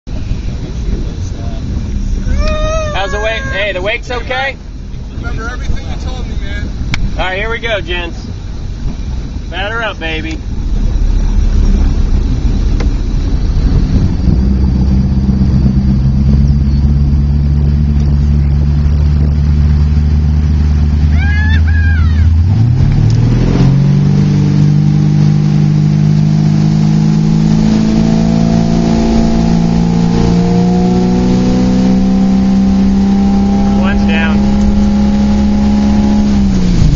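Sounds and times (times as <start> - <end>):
boat engine droning: 0.1 - 36.9
rushing wind and water: 0.1 - 36.9.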